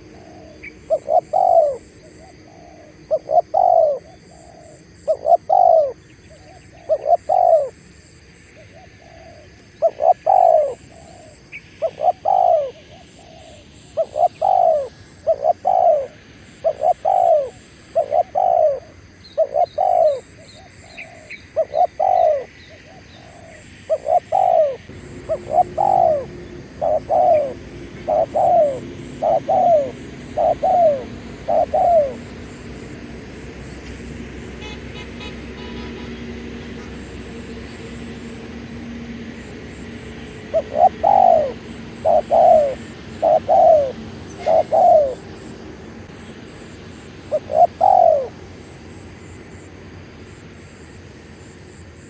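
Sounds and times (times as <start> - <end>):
dove cooing: 0.0 - 7.8, 8.6 - 38.7, 40.1 - 45.8, 47.1 - 48.4
low engine-like hum: 0.0 - 52.0.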